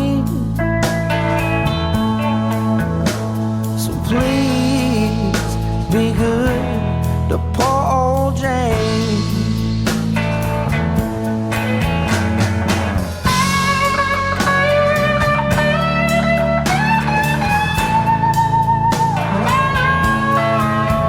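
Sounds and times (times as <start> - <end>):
bass: 0.0 - 21.0
electric guitar lead notes: 0.0 - 21.0
steady drum beat: 3.0 - 21.0.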